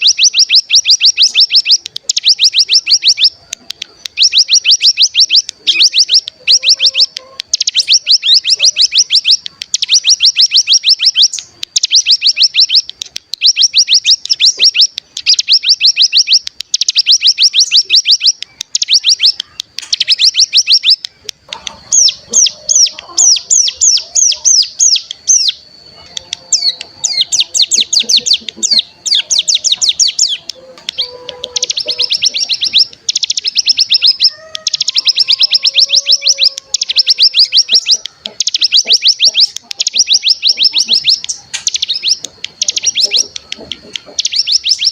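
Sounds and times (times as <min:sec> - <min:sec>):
bird chirps: 0:00.0 - 0:44.9
bird rattling trill: 0:00.0 - 0:44.9.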